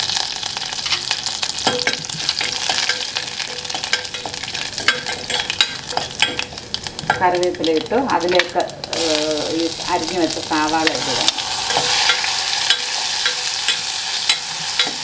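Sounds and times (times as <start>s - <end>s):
seeds sizzling and popping in oil: 0.0s - 15.0s.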